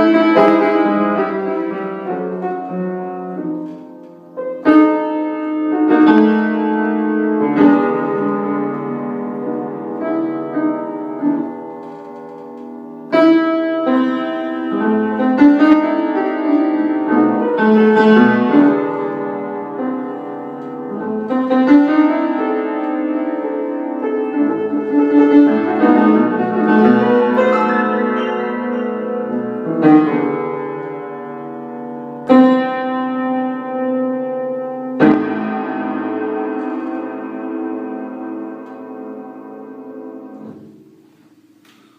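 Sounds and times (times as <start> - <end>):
piano playing chords: 0.0 - 11.8, 12.6 - 40.6.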